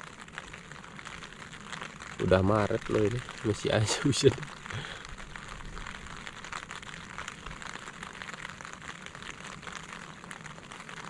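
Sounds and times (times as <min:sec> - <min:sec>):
rain falling on a tent: 0:00.0 - 0:11.0.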